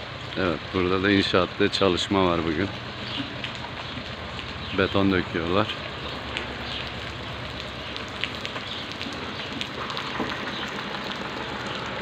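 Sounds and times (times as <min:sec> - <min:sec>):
rain drop ticks: 0:00.0 - 0:12.0
steady rain: 0:00.0 - 0:12.0.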